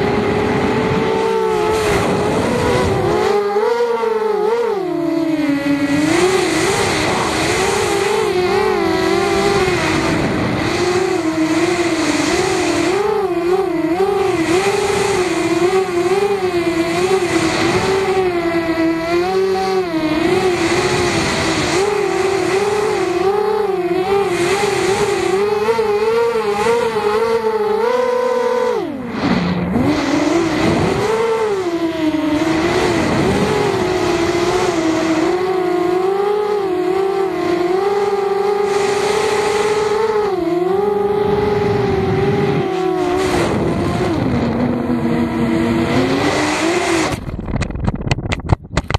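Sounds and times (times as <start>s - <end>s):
quadcopter motors whining: 0.0s - 47.6s.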